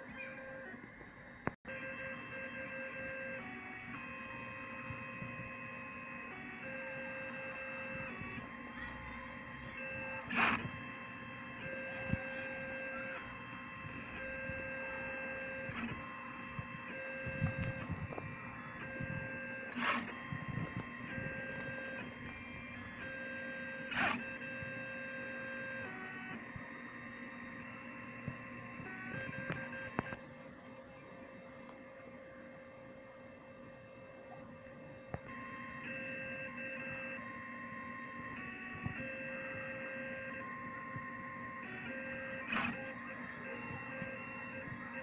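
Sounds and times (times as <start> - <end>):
stepper motors whining: 0.0 - 45.0.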